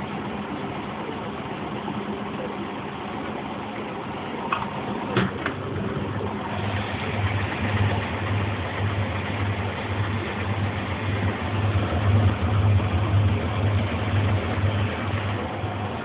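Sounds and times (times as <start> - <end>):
washing machine drum spinning: 3.2 - 16.0.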